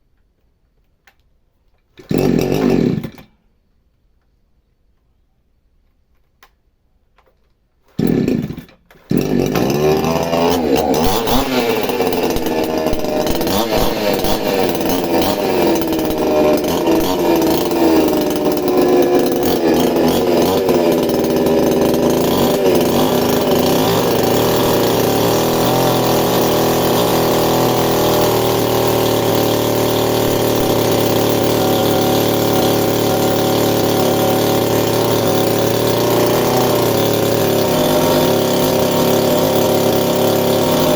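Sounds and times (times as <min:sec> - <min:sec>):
chainsaw engine revving: 0:02.0 - 0:03.4, 0:07.9 - 0:40.9.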